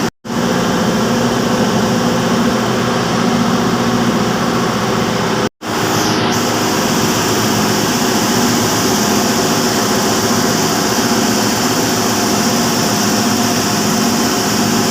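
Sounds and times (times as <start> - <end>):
gas compressor running: 0.0 - 14.9.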